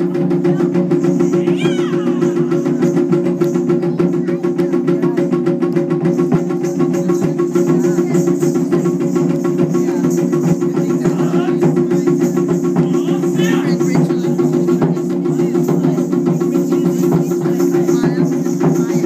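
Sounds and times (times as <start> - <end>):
taiko drums beating fast: 0.0 - 19.0.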